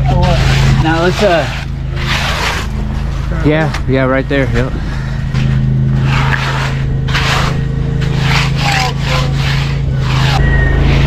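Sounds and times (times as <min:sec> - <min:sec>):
engine running: 0:00.0 - 0:11.0
tool scraping wet concrete: 0:00.0 - 0:11.0.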